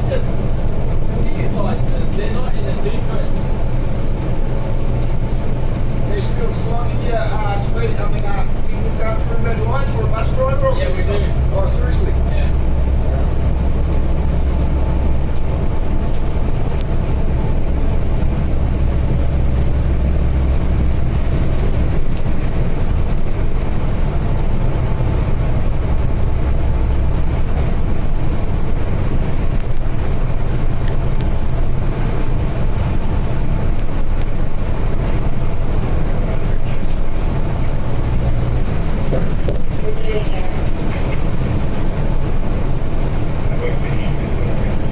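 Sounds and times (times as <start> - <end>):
bus diesel engine drone: 0.0 - 44.9
road noise: 0.0 - 44.9.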